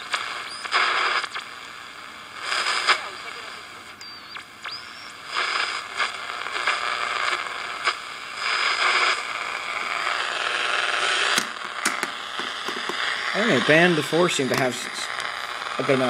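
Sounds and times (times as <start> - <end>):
high steady radio whistle: 0.0 - 16.0
radio crackles: 0.0 - 16.0
radio static hiss: 0.0 - 16.0.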